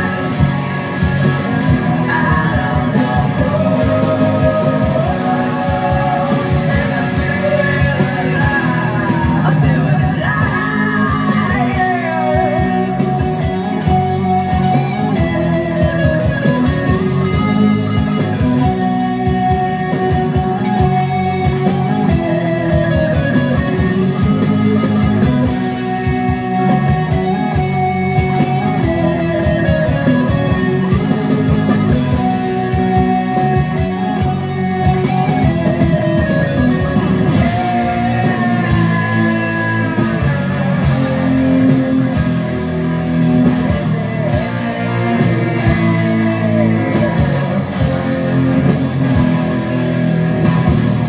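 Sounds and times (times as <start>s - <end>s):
distorted electric guitar riff: 0.0s - 51.0s
rock backing track with vocals: 0.0s - 51.0s.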